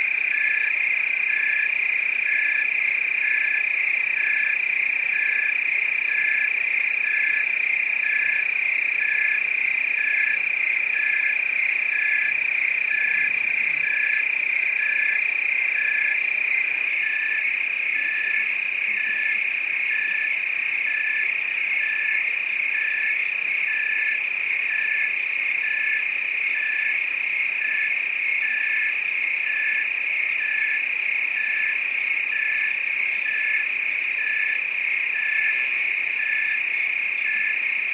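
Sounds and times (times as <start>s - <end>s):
frogs and crickets trilling: 0.0s - 37.9s.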